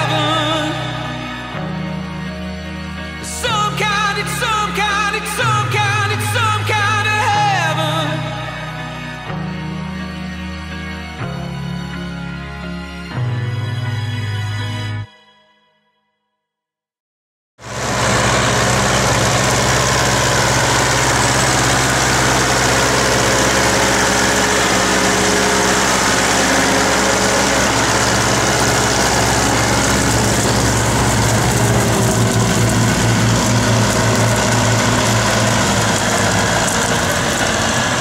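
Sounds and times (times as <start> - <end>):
diesel engines running: 0.0 - 11.8, 17.6 - 38.0.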